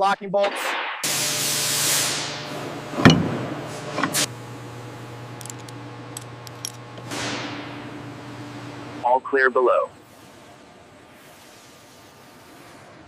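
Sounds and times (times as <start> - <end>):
steady low hum: 1.7 - 12.3.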